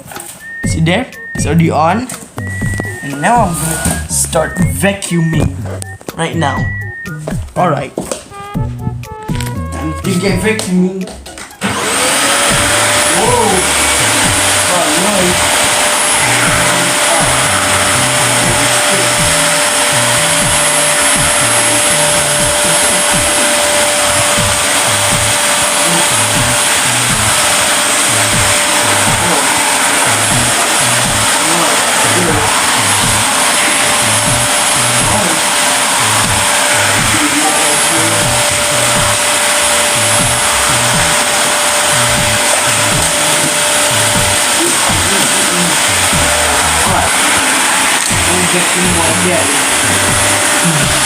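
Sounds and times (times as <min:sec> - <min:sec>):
vacuum cleaner running: 0:00.0 - 0:10.8, 0:11.4 - 0:51.0
music with thumping beat: 0:00.0 - 0:51.0.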